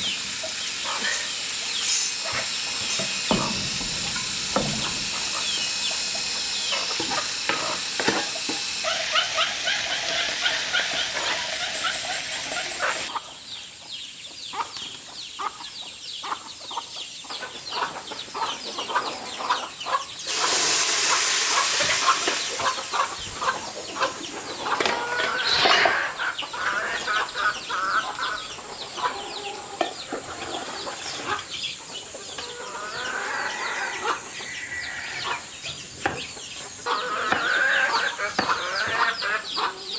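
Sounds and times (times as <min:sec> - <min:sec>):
high-pitched hiss: 0:00.0 - 0:13.6, 0:20.2 - 0:30.3, 0:31.5 - 0:39.9
chickens clucking: 0:00.0 - 0:39.9.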